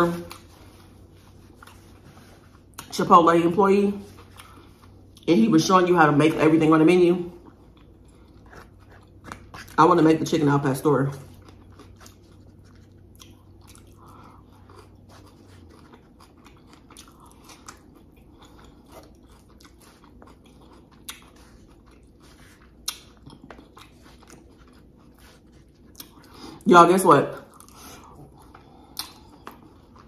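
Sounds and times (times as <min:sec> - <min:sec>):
chewing and mouth sounds: 0:00.0 - 0:03.0, 0:04.0 - 0:05.3, 0:07.3 - 0:09.8, 0:11.1 - 0:26.6, 0:27.3 - 0:30.0.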